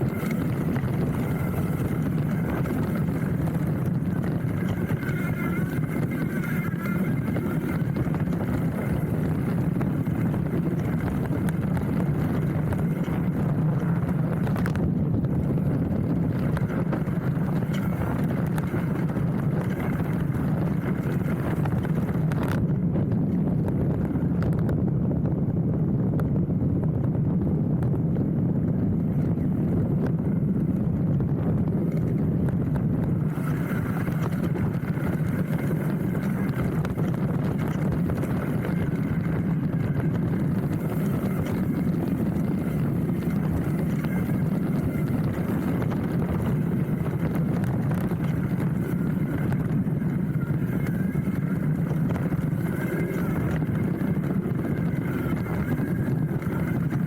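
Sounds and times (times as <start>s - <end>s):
bike clicks and rattles: 0.0s - 22.6s, 29.0s - 57.0s
tyres rumbling on dirt: 0.0s - 24.3s, 28.9s - 57.0s
wind on microphone: 0.0s - 57.0s.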